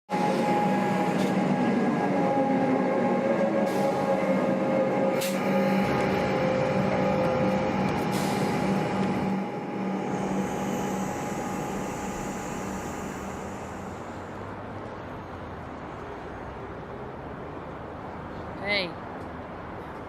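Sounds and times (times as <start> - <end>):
train hum and rumble: 0.1 - 20.0.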